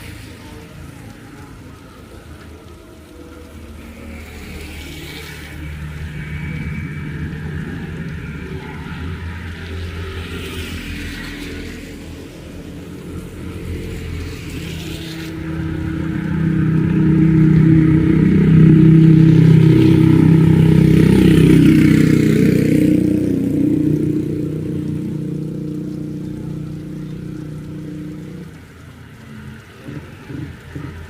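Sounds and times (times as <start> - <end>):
vehicle engine passing by: 0.0 - 31.0.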